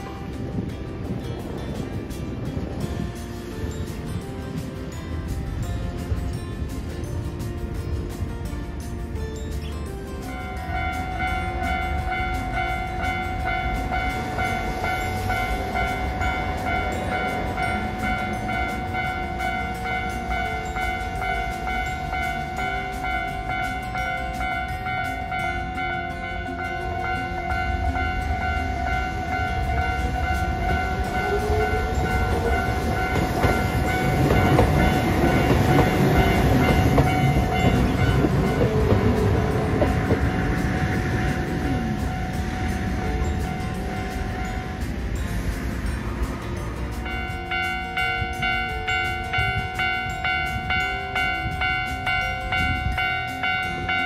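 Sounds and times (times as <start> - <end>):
tram wheels rumbling on rails: 0.0 - 54.0
level-crossing alarm ringing: 9.6 - 54.0.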